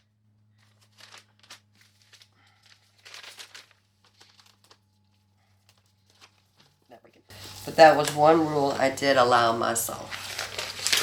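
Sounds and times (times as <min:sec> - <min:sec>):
low steady hum: 0:00.0 - 0:11.0
plastic packaging crinkling: 0:00.6 - 0:11.0.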